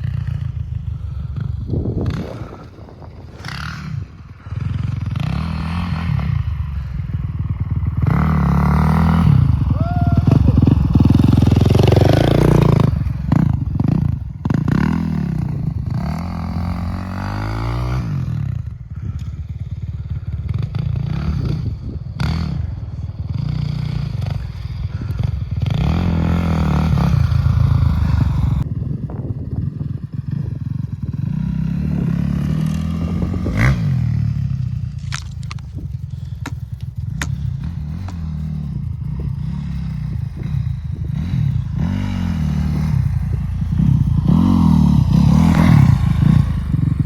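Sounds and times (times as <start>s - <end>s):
dirt bike engine revving: 0.0s - 18.6s, 19.9s - 28.6s, 29.9s - 47.0s.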